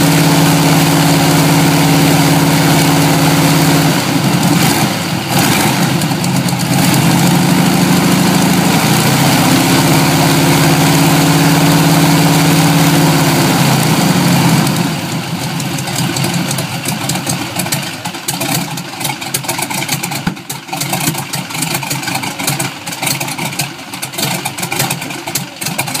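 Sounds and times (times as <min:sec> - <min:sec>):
radial aircraft engine running: 0:00.0 - 0:26.0.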